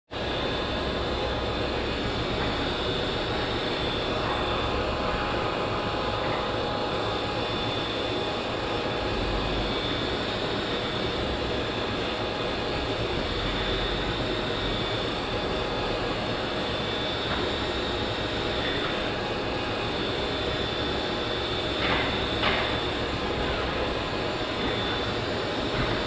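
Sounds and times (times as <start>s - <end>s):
machinery running: 0.2s - 26.0s.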